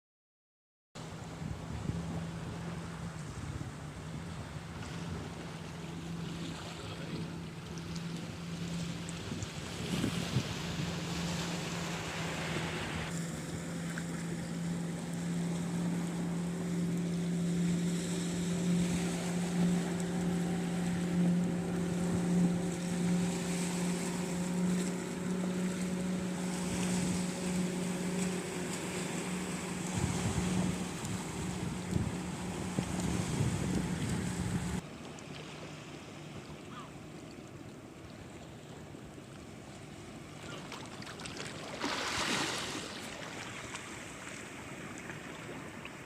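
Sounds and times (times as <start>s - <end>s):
low motor hum: 1.0s - 46.0s
surf: 1.0s - 46.0s
wind: 1.0s - 46.0s.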